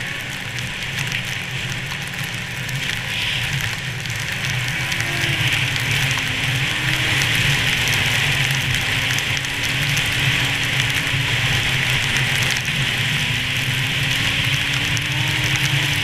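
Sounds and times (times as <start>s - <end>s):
snowmobile engine running: 0.0s - 16.0s
wind and blowing snow hiss: 0.0s - 16.0s.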